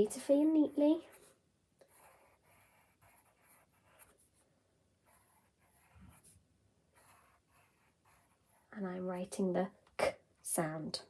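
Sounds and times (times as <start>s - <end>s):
pen scratching on paper: 0.1s - 9.3s.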